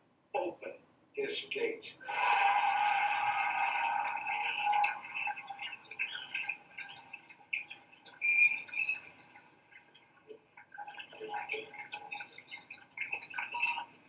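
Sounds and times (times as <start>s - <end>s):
crowd applauding and cheering: 2.0s - 14.0s.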